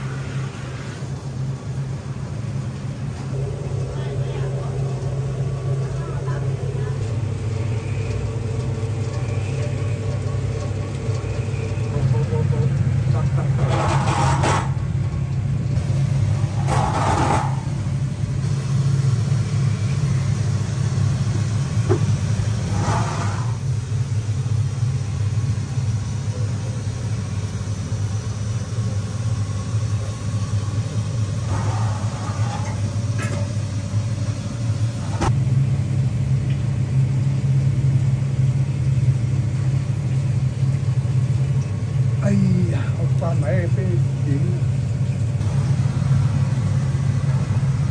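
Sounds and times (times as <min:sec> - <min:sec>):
low mechanical rumble: 0:00.0 - 0:47.9.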